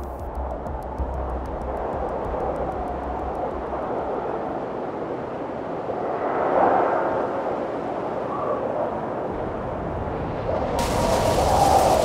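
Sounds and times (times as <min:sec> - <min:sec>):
gale wind roaring: 0:01.7 - 0:12.0.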